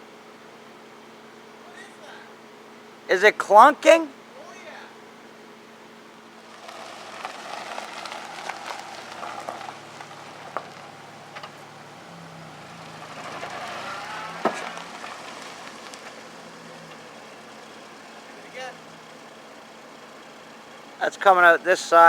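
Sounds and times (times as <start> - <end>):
car engine running: 0.0 - 22.0
road and tyre noise: 0.0 - 22.0.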